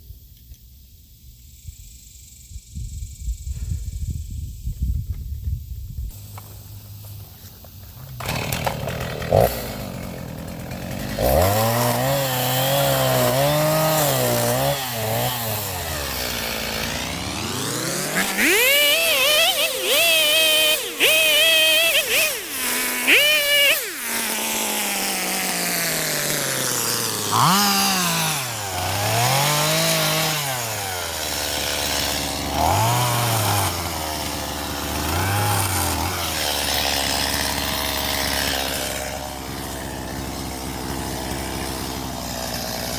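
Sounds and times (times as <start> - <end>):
chainsaw revving and idling: 6.1 - 42.9.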